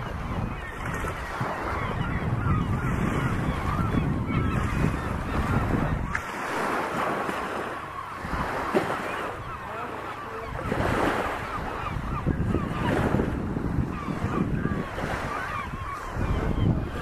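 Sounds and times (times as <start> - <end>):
seabirds calling: 0.0 - 17.0
water washing at the shore: 0.0 - 17.0
wind buffeting the microphone: 0.0 - 17.0.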